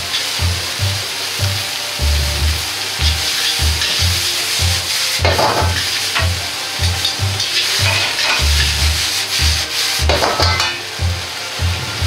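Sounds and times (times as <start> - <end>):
background music with beat: 0.0 - 12.0
food sizzling in wok: 0.0 - 12.0
utensils scraping wok: 0.0 - 12.0.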